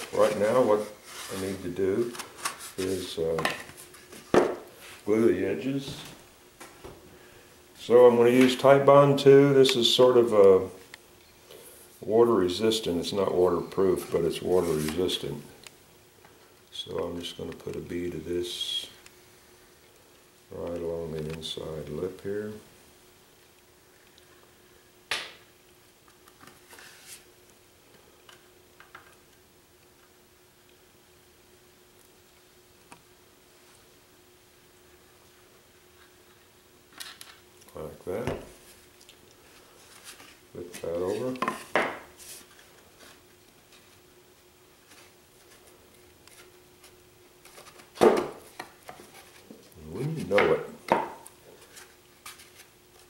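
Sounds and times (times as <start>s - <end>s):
faint hum: 0.0s - 53.0s.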